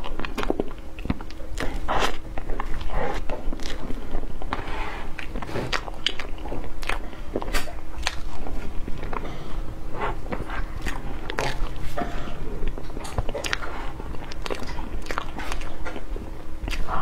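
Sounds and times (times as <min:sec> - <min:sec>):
lip-smacking: 0:00.0 - 0:17.0
wet chewing: 0:00.0 - 0:17.0.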